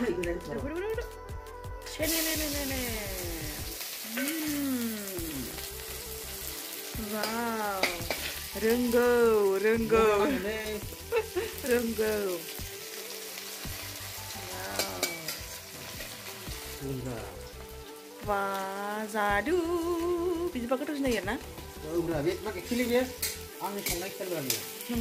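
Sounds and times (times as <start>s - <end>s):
onions sizzling in hot oil: 1.9s - 25.0s.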